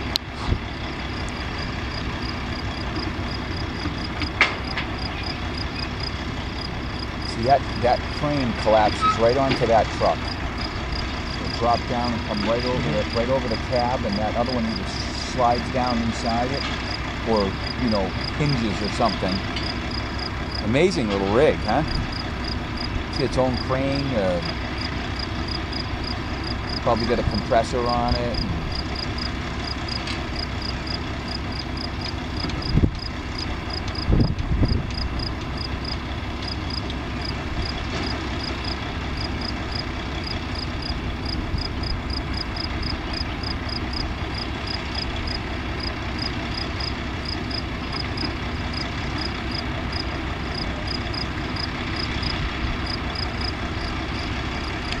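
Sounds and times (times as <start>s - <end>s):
rig engine running: 0.0s - 55.0s.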